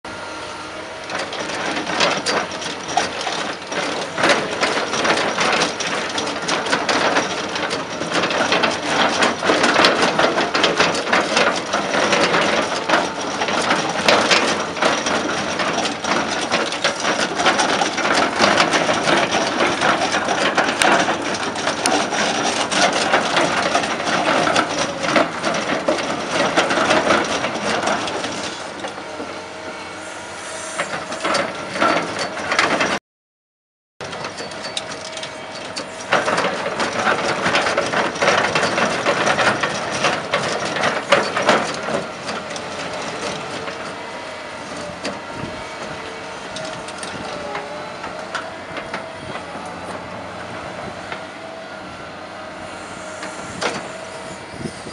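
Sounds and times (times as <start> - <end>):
hydraulic motor hum: 0.1 - 33.0, 34.0 - 54.9
rotary cutter grinding rock: 0.9 - 29.4, 34.0 - 51.6, 52.6 - 54.9.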